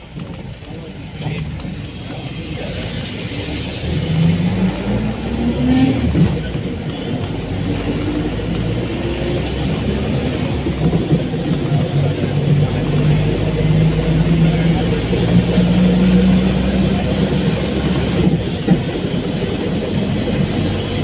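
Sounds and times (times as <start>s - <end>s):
bus engine running: 0.0s - 21.0s
road noise: 0.0s - 21.0s.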